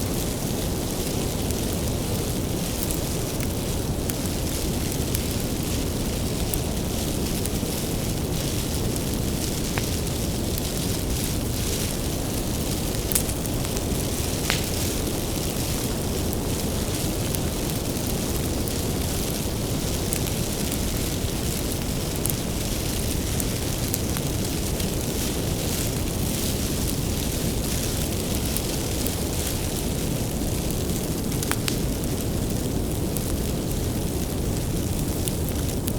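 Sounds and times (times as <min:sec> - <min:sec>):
low rumble of fire: 0:00.0 - 0:35.9
wood fire crackling and popping: 0:00.0 - 0:35.9.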